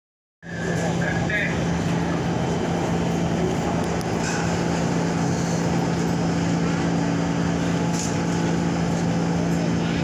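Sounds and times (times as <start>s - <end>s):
constant low drone: 0.4s - 10.0s
subway car hum and rumble: 0.4s - 10.0s.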